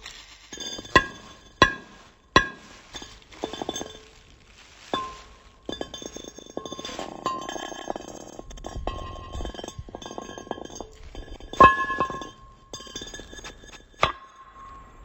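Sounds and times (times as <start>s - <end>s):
glass clinking: 0.6s - 4.2s, 4.9s - 15.0s.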